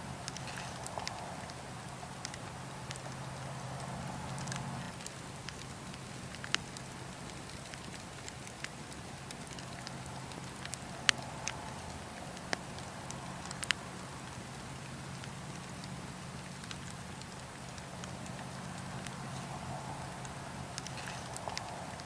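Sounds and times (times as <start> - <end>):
burning wood crackling: 0.0 - 22.0
fire popping: 0.0 - 22.0.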